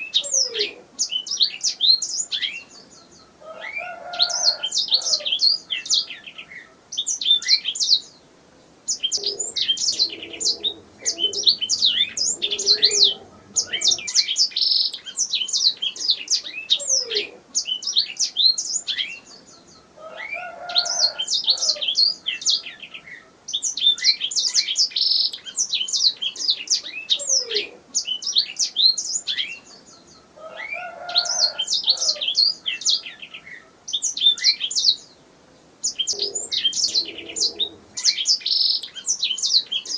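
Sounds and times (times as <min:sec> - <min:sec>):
canary singing trills and chirps: 0:00.0 - 0:08.2, 0:08.9 - 0:35.2, 0:35.8 - 0:39.9.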